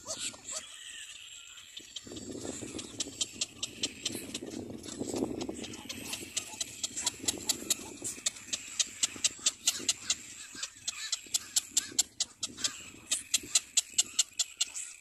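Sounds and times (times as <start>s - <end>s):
chicks high clicking calls: 0.0s - 15.0s.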